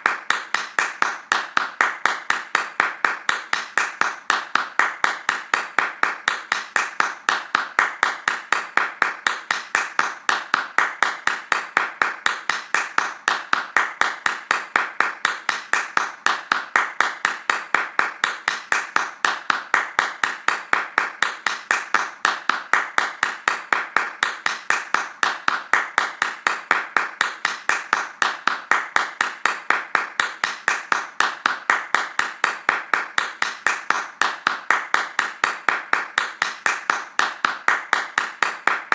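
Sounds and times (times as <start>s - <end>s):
fast rhythmic hand claps: 0.0s - 38.9s.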